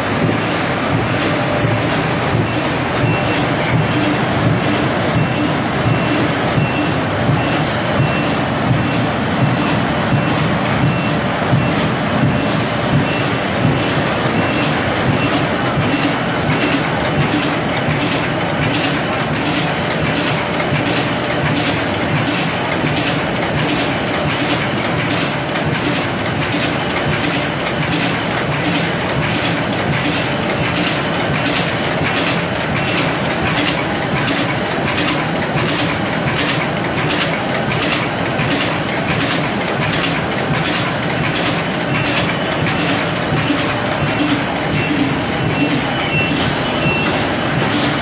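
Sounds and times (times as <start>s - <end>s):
stitching machine clattering: 0.0s - 48.0s.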